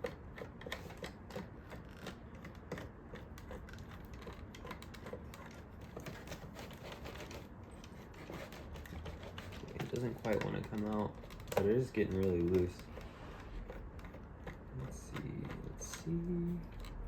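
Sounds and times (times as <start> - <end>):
light clicks and ticks: 0.0 - 17.0
screwdriver turning a screw: 0.0 - 17.0.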